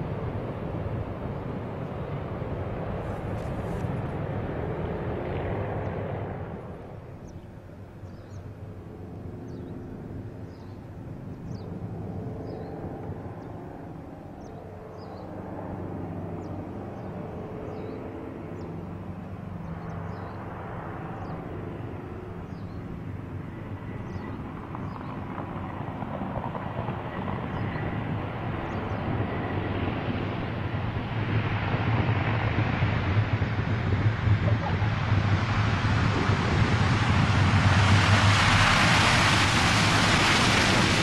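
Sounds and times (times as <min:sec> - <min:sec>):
propeller plane engines droning: 0:00.0 - 0:41.0.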